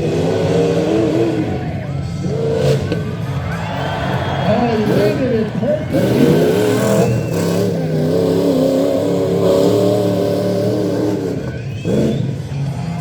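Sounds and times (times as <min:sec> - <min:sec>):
engine running at high revs: 0:00.0 - 0:13.0.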